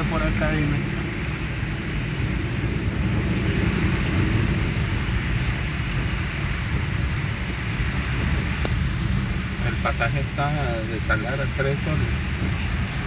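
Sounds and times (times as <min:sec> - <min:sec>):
car cabin engine and tyre rumble: 0:00.0 - 0:13.0.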